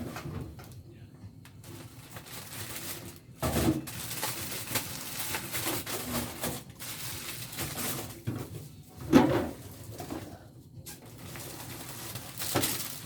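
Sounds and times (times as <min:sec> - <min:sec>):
plastic packaging rustling: 0:01.6 - 0:08.8, 0:09.4 - 0:13.0.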